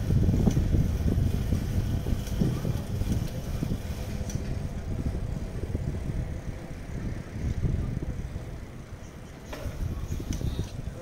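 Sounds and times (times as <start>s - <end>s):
bicycle tyres rolling on road: 0.0s - 11.0s
wind rumbling on microphone: 0.0s - 11.0s.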